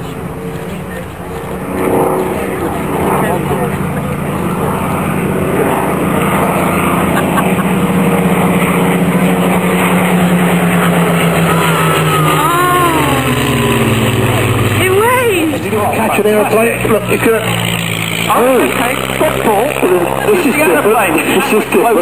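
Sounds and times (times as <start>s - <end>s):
fighter planes piston engines droning: 0.0s - 22.0s.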